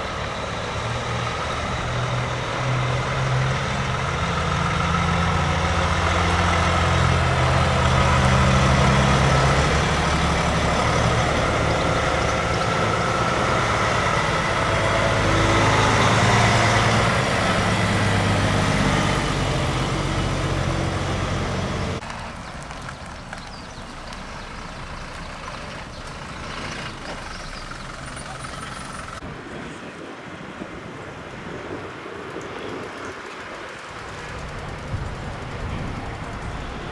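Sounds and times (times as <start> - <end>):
traffic background: 0.0 - 36.9
truck diesel engines running: 0.0 - 36.9.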